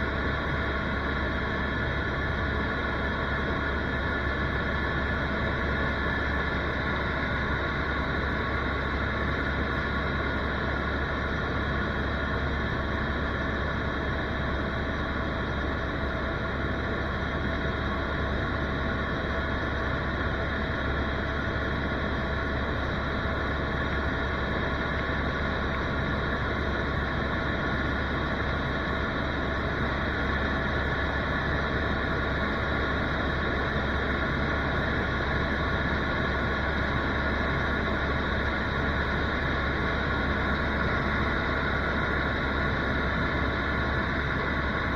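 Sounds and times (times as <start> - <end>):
helicopter engine and rotors: 0.0 - 44.9.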